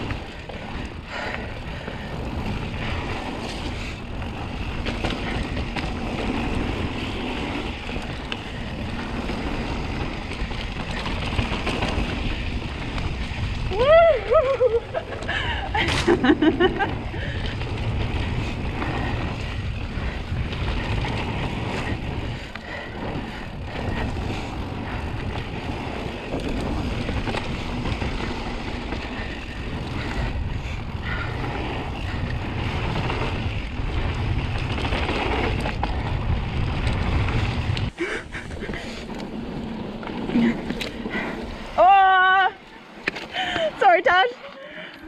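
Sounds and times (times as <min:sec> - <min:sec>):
tyre noise on dirt: 0:00.0 - 0:14.1, 0:14.8 - 0:44.2
bike rattling over bumps: 0:00.0 - 0:45.0
wind buffeting microphone: 0:00.0 - 0:45.0.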